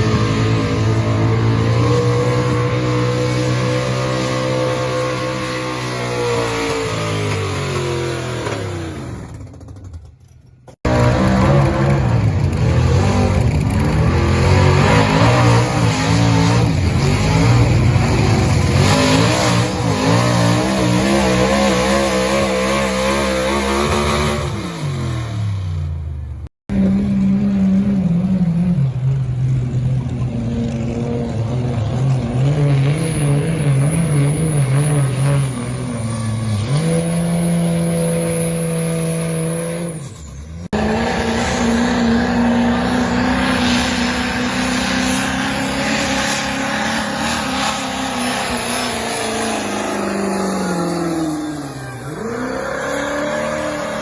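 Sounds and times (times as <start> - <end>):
diesel truck engines under load: 0.0 - 54.0.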